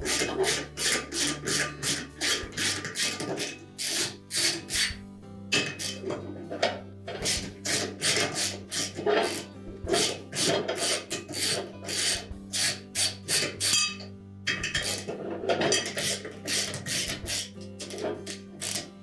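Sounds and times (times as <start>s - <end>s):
socket ratchet ratcheting: 0.0s - 18.9s.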